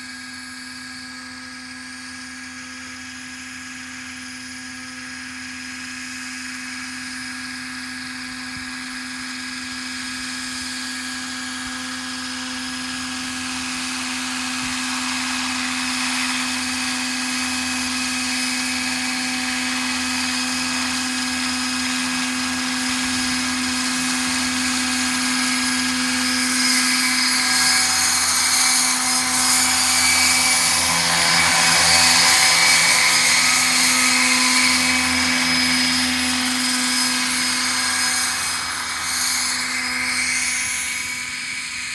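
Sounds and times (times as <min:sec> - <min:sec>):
model helicopter motor and rotor whine: 0:00.0 - 0:41.9.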